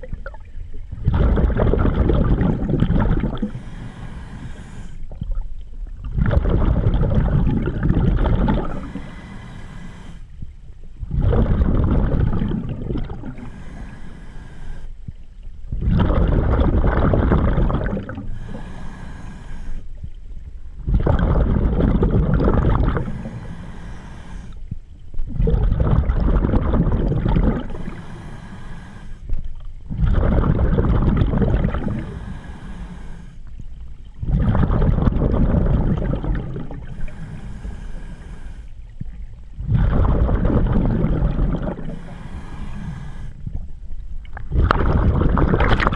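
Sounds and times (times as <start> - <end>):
rush of exhaled bubbles: 0.0 - 10.2, 11.0 - 14.0, 15.7 - 19.9, 20.8 - 24.6, 25.2 - 29.1, 29.8 - 32.8, 34.1 - 38.2, 39.0 - 45.9
diver breathing through regulator: 1.1 - 5.2, 7.4 - 20.2, 20.9 - 25.2, 25.8 - 33.6, 34.2 - 43.7.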